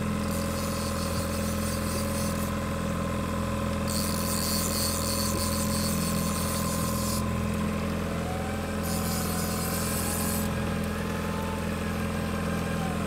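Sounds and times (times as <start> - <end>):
outboard motor idling: 0.0 - 12.2.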